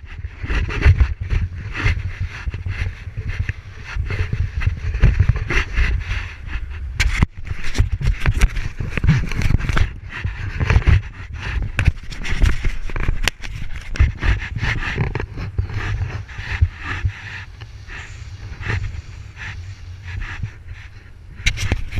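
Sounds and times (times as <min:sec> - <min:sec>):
sharp clicks and scraping: 0:00.0 - 0:21.9
wind buffeting microphone: 0:00.0 - 0:21.9.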